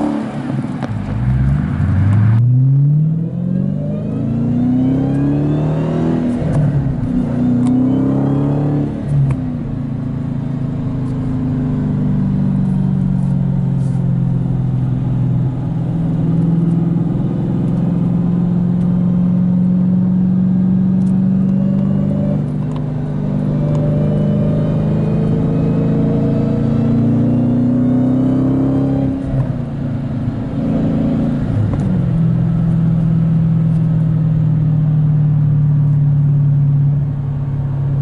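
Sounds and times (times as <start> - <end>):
car engine revving and idling: 0.0 - 38.0.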